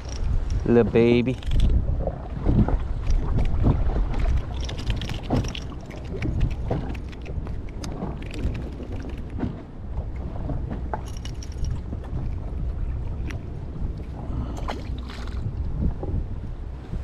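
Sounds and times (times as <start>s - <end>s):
water slapping against hull: 0.0s - 17.0s
wind buffeting microphone: 0.0s - 17.0s.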